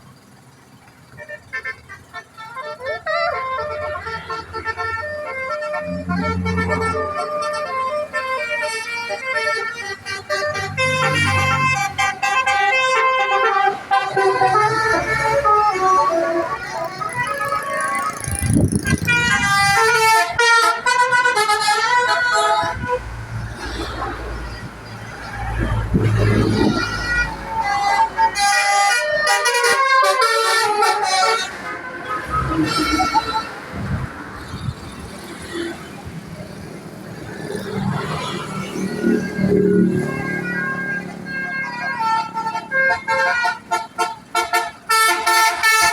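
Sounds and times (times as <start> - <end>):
multi-tone bus air horn melody: 1.1 - 34.7, 37.2 - 45.9.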